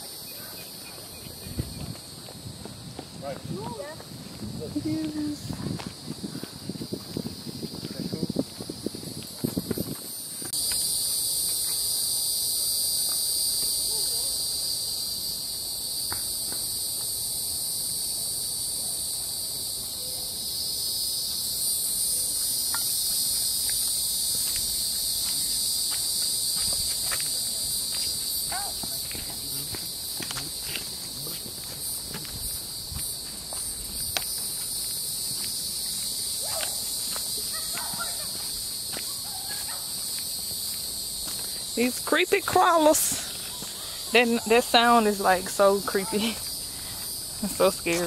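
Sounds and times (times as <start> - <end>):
faint footsteps on trail: 0.2 - 12.0, 21.0 - 48.0
insects shrilling: 3.5 - 48.0.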